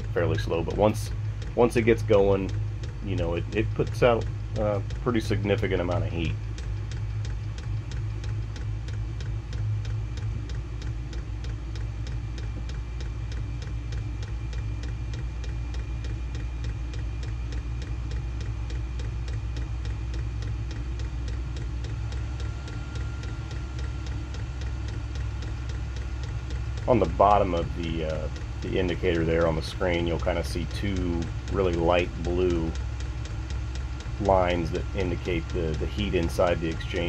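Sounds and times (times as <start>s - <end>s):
air heater blower hum: 0.0s - 37.0s
fuel pump ticking: 0.0s - 37.0s.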